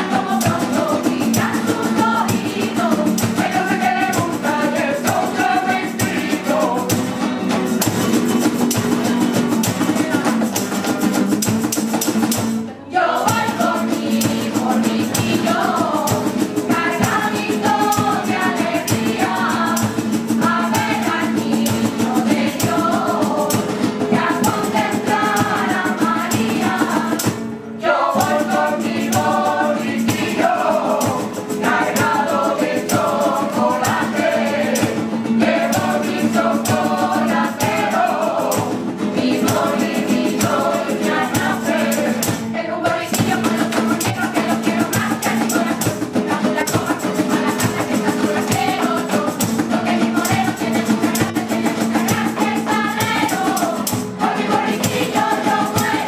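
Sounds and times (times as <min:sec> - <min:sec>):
women's choir singing in unison: 0:00.0 - 0:07.2, 0:07.9 - 0:11.0, 0:12.7 - 0:56.0
acoustic guitar: 0:00.0 - 0:56.0
cajon drum: 0:00.0 - 0:56.0
jingling tambourine: 0:00.0 - 0:56.0.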